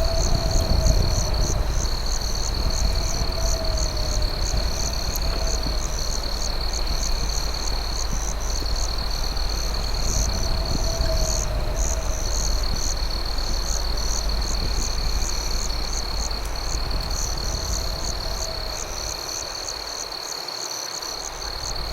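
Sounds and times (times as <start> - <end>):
low steady rumble: 0.0 - 19.8, 21.3 - 21.9
crickets trilling: 0.0 - 21.9
rapid pulsed cricket chirps: 0.0 - 21.9.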